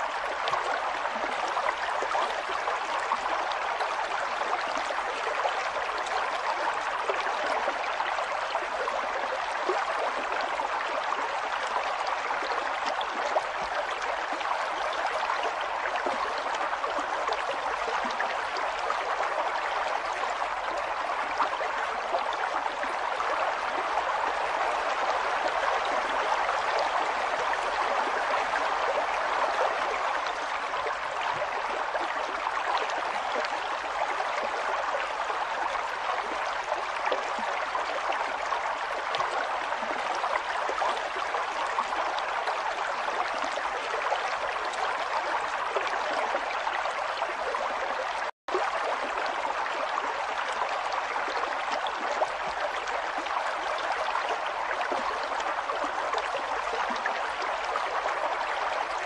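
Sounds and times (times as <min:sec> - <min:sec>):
river water babbling over stones: 0:00.0 - 0:59.0.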